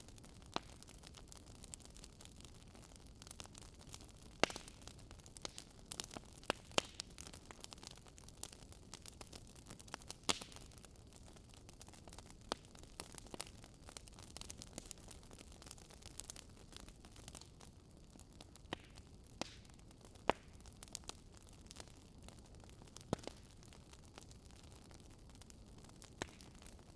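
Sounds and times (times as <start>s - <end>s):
burning wood crackling and popping: 0.0s - 26.9s.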